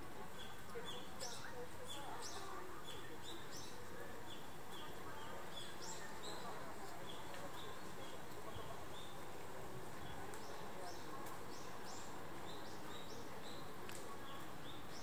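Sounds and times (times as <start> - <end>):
murmur of distant voices: 0.0 - 15.0.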